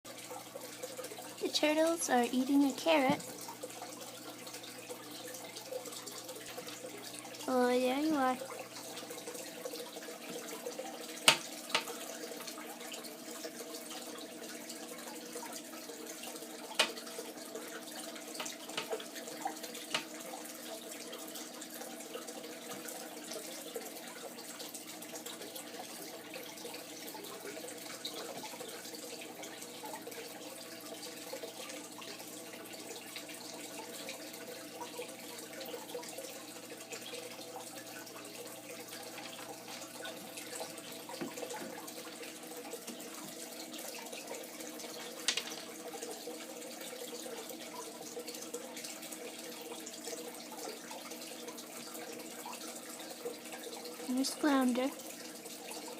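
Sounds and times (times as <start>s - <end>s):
running water: 0.0s - 55.9s.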